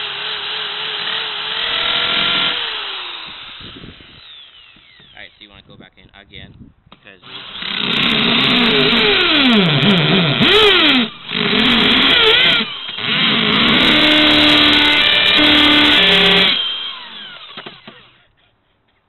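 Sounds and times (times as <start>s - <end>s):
electric drill boring into plastic: 0.0s - 5.4s, 7.2s - 18.1s.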